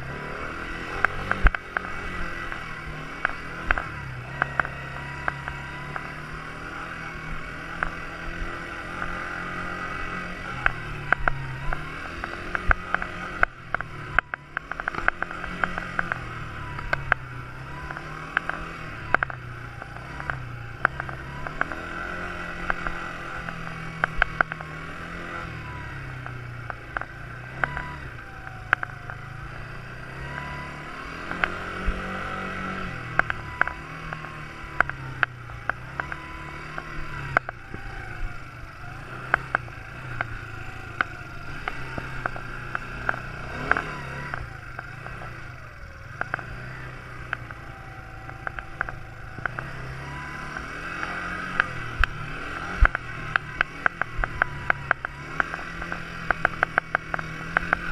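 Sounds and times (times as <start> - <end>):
quad bike engine revving: 0.0 - 57.9
sharp clicks and knocks: 0.5 - 29.8, 30.6 - 38.4, 39.1 - 57.9.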